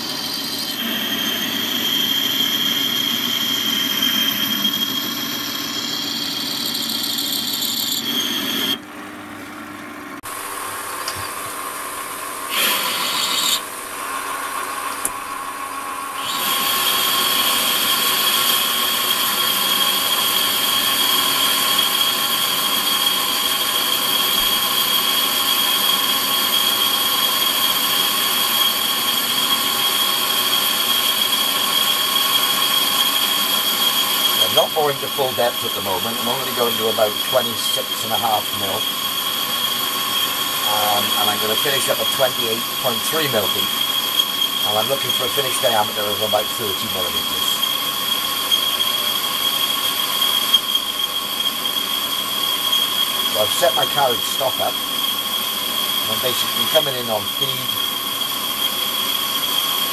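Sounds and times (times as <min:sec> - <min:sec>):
metal lathe cutting with whine: 0:00.0 - 0:08.8, 0:12.2 - 0:59.9.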